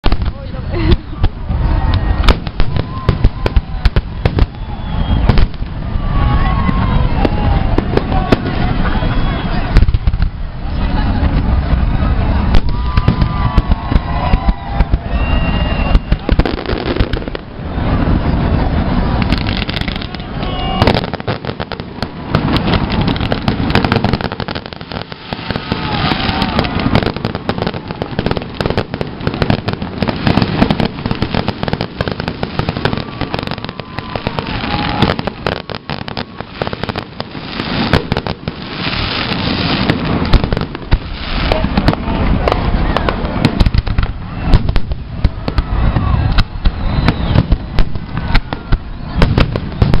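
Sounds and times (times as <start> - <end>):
fireworks bursting and crackling: 0.0 - 50.0
voices of onlookers: 0.0 - 50.0.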